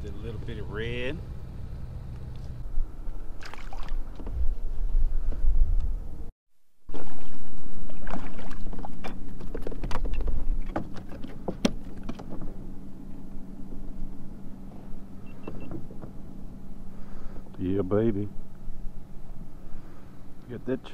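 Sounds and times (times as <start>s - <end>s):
steady low hum: 0.0s - 9.6s, 10.3s - 20.9s.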